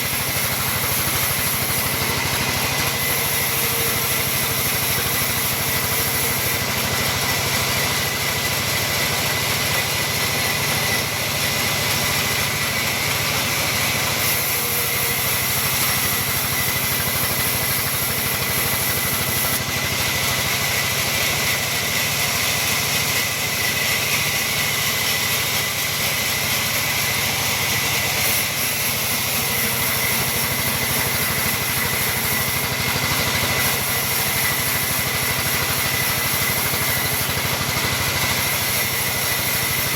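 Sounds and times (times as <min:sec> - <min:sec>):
sawmill machinery sawing timber: 0:00.0 - 0:39.9.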